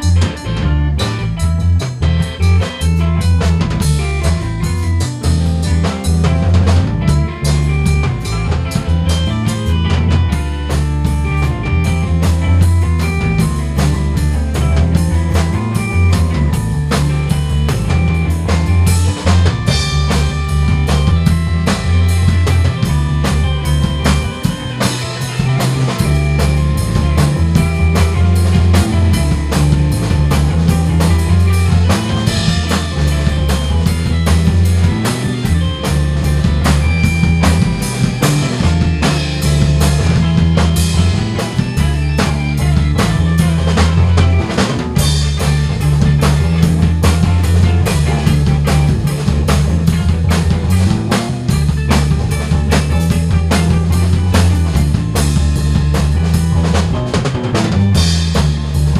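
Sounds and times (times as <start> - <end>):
drum kit beat: 0.0 - 58.9
electric bass line: 0.0 - 58.9
electric guitar: 0.0 - 58.9
electric piano: 0.0 - 58.9
organ: 0.0 - 58.9.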